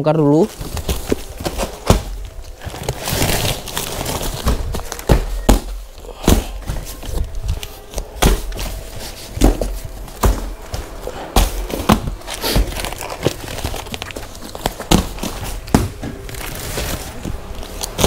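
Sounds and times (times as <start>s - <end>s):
plastic packaging rustling: 0.3s - 18.0s
packs thudding down: 0.5s - 18.0s.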